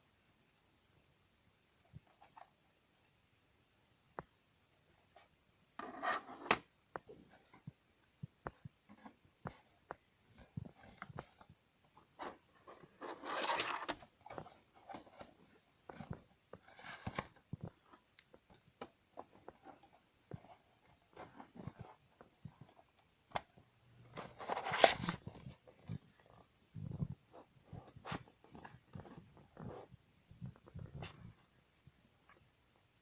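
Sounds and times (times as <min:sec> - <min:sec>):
rustling: 0:04.9 - 0:32.6.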